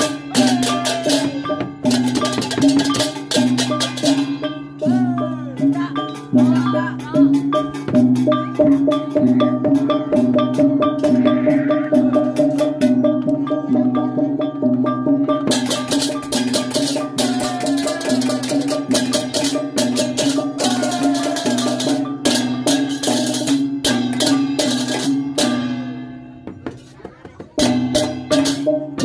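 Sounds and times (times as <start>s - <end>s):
gongs beating: 0.0s - 26.1s
hand cymbals clashing: 0.0s - 26.2s
hand drum: 0.0s - 29.0s.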